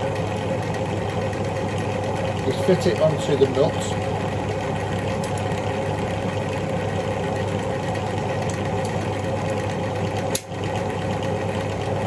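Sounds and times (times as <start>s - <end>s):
wire-wheel grinder humming: 0.0s - 12.0s.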